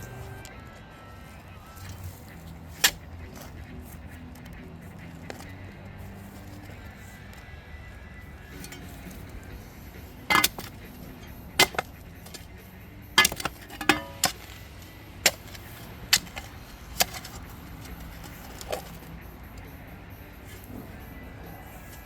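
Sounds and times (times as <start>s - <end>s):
clinks and knocks of hard objects: 1.6s - 22.0s.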